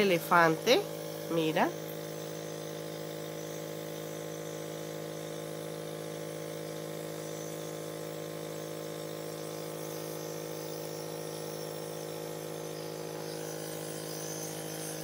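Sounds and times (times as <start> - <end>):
compressor buzzing hum: 0.0 - 15.0.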